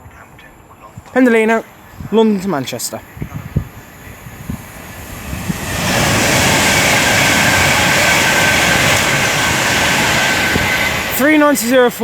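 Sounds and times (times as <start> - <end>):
electric train passing: 0.6 - 12.0.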